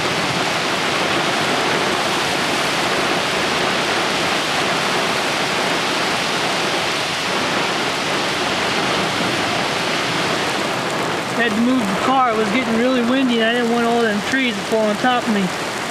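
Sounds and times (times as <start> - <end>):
strong wind: 0.0 - 15.9
torrential rain: 0.0 - 15.9.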